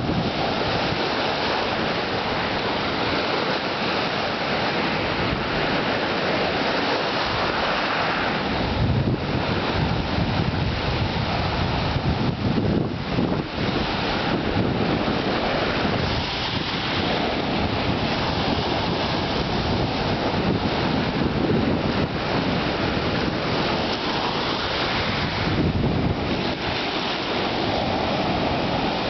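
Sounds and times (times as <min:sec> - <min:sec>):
surf on rocky shore: 0:00.0 - 0:29.0
wind buffeting microphone: 0:00.0 - 0:29.0.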